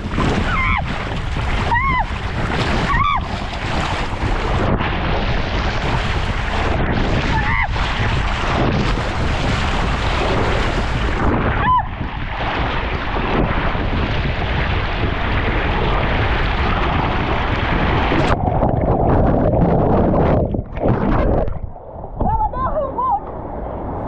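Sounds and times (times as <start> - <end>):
water rushing down slide: 0.0 - 24.0
wind buffeting microphone: 0.0 - 24.0.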